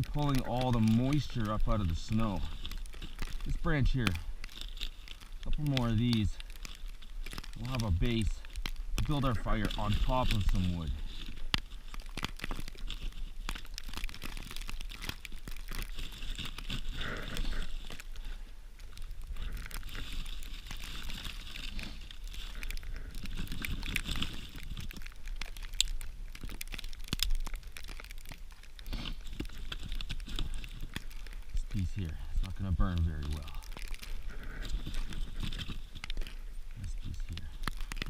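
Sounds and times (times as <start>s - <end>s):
branches crinkling and snapping: 0.0s - 38.0s.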